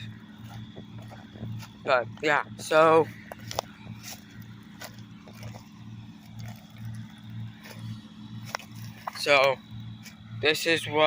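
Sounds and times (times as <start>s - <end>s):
distant engine humming: 0.0s - 11.0s.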